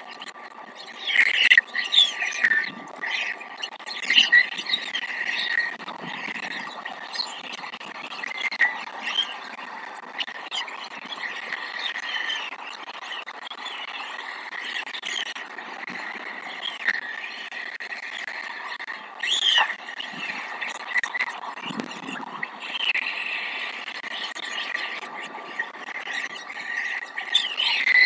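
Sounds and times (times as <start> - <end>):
chorus of chirps and croaks: 0.0 - 28.0.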